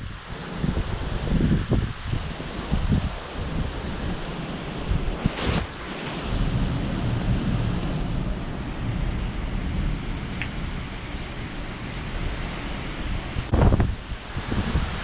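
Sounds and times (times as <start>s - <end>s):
strong wind gust buffeting microphone: 0.0s - 15.0s.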